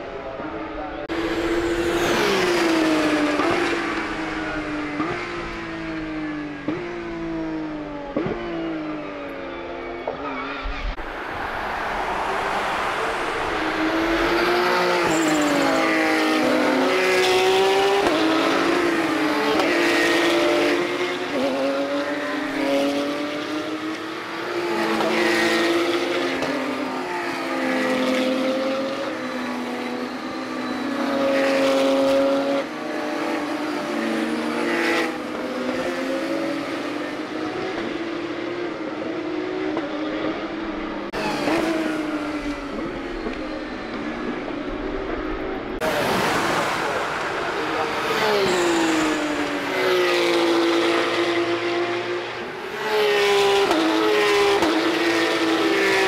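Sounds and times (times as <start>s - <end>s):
race cars passing: 0.0s - 56.0s.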